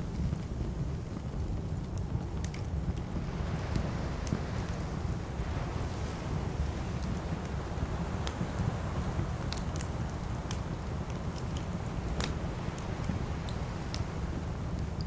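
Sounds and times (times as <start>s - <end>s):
wood crackling and popping: 0.0s - 4.8s, 6.8s - 15.0s
campfire flames rumbling: 0.0s - 15.0s.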